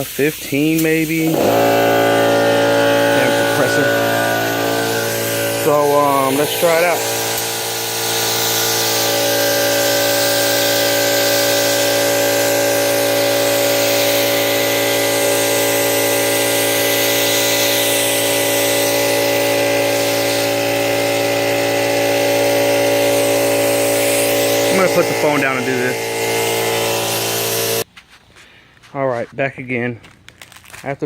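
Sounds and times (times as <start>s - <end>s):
air compressor humming: 0.5s - 27.9s
spray gun hissing: 0.7s - 27.8s.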